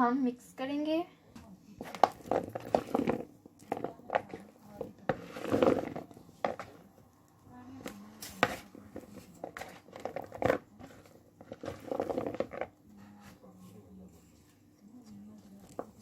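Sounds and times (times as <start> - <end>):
wet food squelching in bowl: 1.8 - 16.0.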